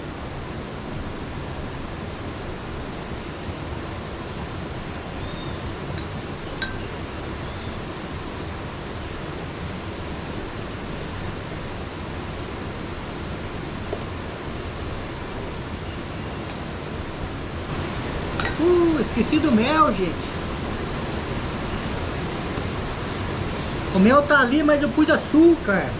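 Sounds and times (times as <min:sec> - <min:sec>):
river rushing: 0:00.0 - 0:25.9.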